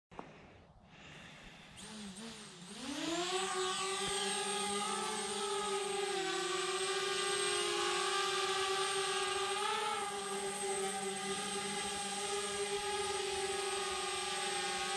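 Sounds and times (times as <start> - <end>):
drone propellers whining: 1.0 - 14.9.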